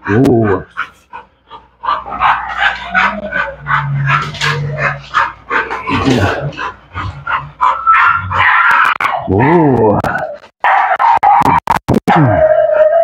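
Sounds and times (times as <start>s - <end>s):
dog barking and yipping: 0.4s - 9.4s, 10.1s - 11.6s.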